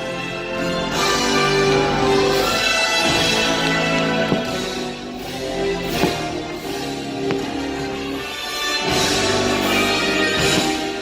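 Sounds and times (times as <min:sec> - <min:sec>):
music with sustained notes: 0:00.0 - 0:11.0.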